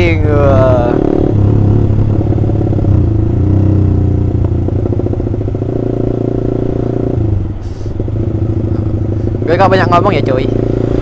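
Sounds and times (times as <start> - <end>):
motorcycle engine with racing exhaust: 0.0 - 11.0.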